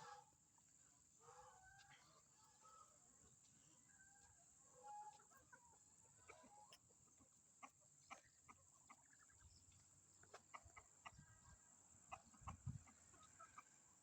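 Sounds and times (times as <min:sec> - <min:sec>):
chicken clucking: 0:00.0 - 0:14.0.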